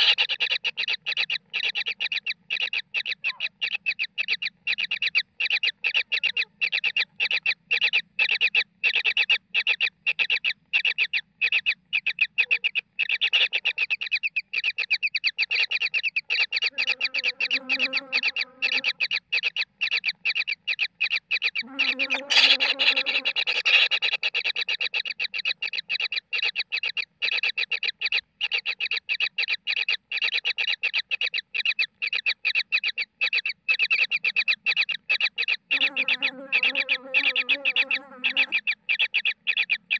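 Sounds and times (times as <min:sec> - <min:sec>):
bird chicks begging calls: 0:00.0 - 0:39.9.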